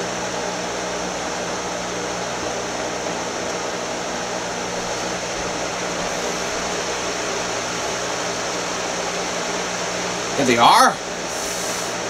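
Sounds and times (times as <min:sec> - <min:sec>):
fan hiss and hum: 0:00.0 - 0:12.0.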